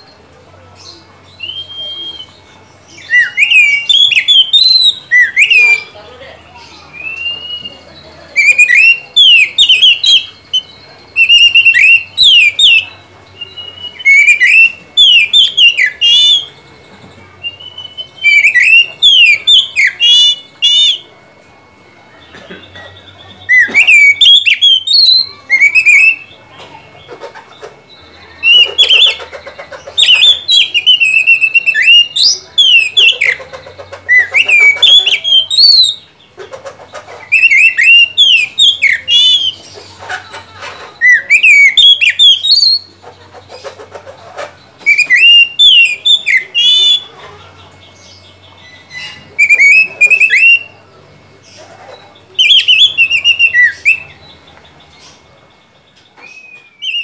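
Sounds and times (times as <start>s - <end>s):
bird singing whistled notes: 0.8s - 21.7s, 22.7s - 26.9s, 30.0s - 33.4s, 34.1s - 36.3s, 37.2s - 39.7s, 41.0s - 43.0s, 44.7s - 47.1s, 47.7s - 50.9s, 52.0s - 57.0s.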